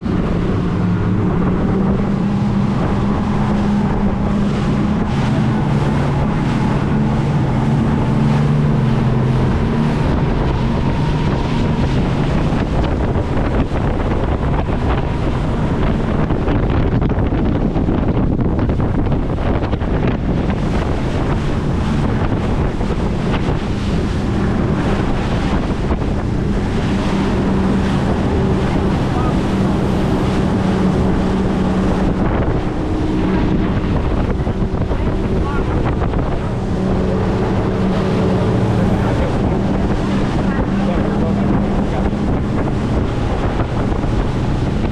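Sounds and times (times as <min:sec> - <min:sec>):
boat engine drone: 0:00.0 - 0:44.9
rushing water: 0:00.0 - 0:44.9
wind buffeting microphone: 0:00.0 - 0:44.9.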